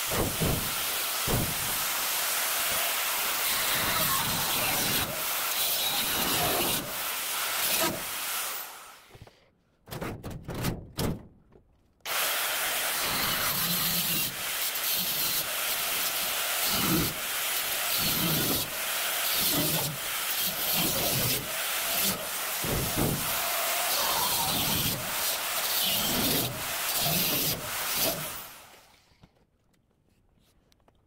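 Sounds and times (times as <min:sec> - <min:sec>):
angle grinder cutting steel: 0:00.0 - 0:09.1, 0:12.1 - 0:29.0.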